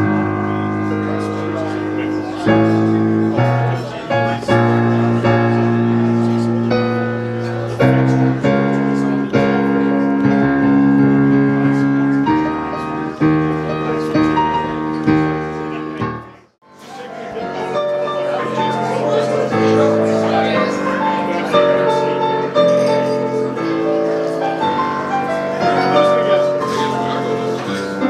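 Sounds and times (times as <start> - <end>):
piano playing slow chords: 0.0 - 28.0.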